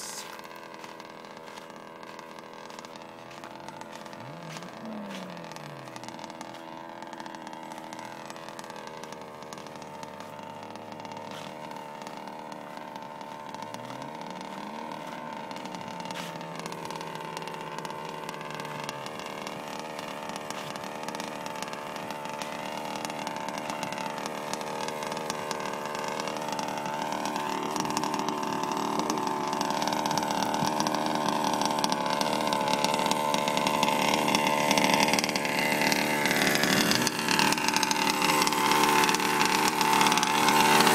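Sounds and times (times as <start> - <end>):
small two-stroke engine running: 0.0 - 40.9.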